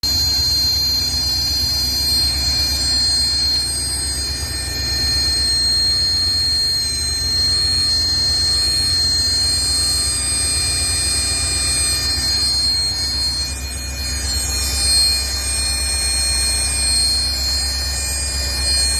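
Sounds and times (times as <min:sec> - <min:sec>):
high-pitched engine squeal: 0:00.0 - 0:18.9.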